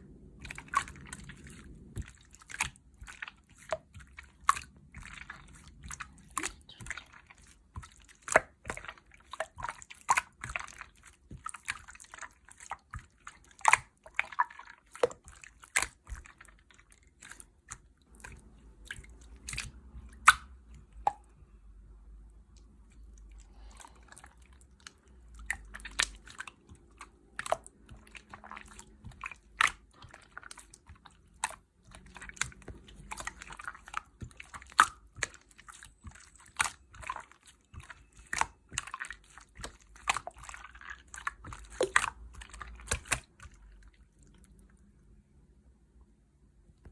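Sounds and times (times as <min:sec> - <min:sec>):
slime squishing with sticky clicks: 0:00.0 - 0:46.9.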